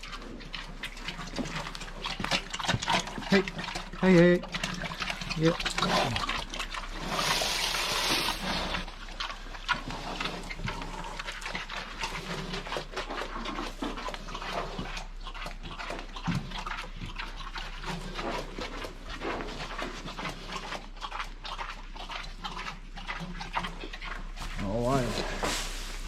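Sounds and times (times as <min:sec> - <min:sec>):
pigs crunching grain: 0:00.0 - 0:26.0.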